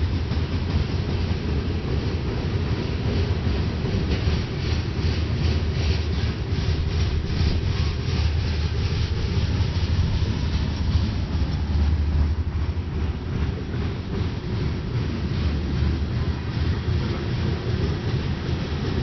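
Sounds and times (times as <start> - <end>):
freight train rumbling: 0.0 - 19.0
train wheels clickety-clack: 0.0 - 19.0.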